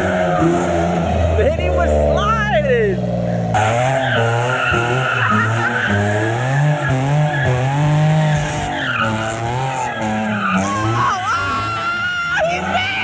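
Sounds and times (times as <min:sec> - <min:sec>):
tires squealing and skidding: 0:00.0 - 0:02.7, 0:03.5 - 0:13.0
car engine revving: 0:00.0 - 0:13.0.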